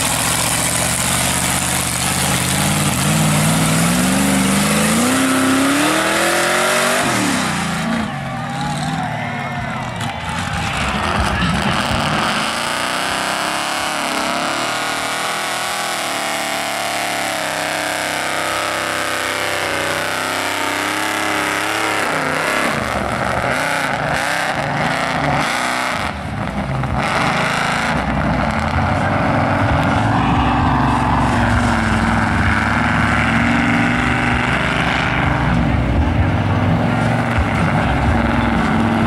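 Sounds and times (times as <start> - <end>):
tires churning mud: 0.0 - 39.0
truck engine revving: 0.0 - 39.0.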